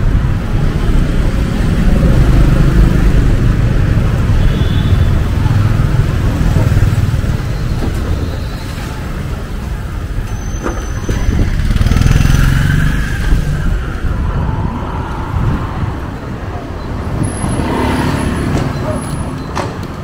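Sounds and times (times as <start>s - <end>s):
motorbikes and cars passing: 0.0s - 10.2s, 11.0s - 20.0s.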